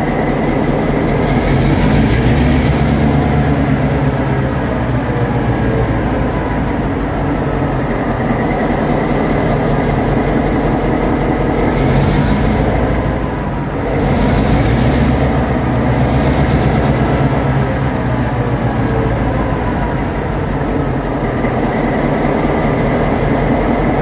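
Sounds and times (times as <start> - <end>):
diesel locomotive engine under load: 0.0 - 24.0.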